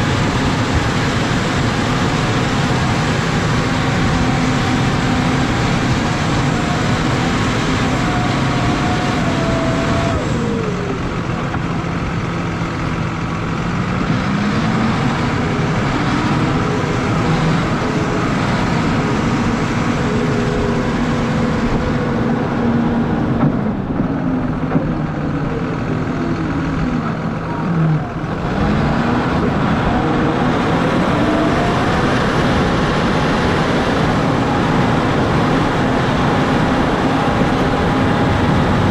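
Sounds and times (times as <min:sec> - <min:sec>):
steady rushing noise: 0:00.0 - 0:38.9
tractor diesel engine under load: 0:00.0 - 0:38.9.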